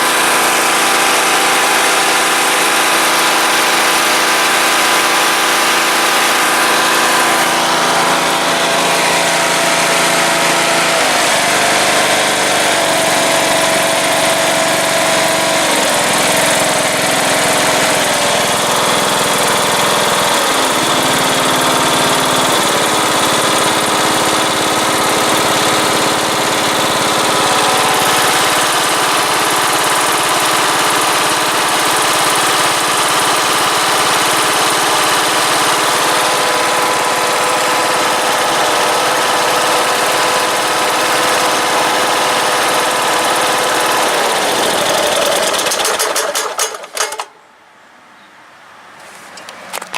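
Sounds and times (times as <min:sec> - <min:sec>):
riding mower engine running: 0:00.0 - 0:47.4, 0:49.0 - 0:49.9.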